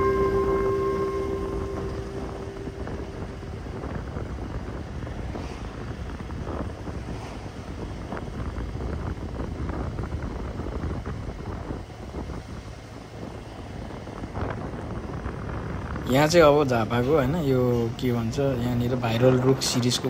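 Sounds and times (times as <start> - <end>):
road noise: 0.0 - 20.0
wind buffeting microphone: 0.0 - 20.0.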